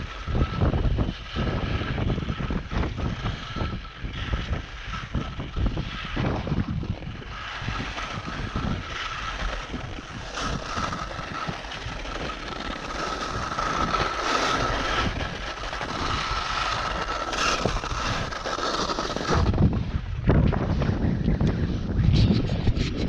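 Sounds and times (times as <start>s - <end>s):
skis scraping over snow: 0.0s - 23.0s
wind on microphone: 0.0s - 23.0s.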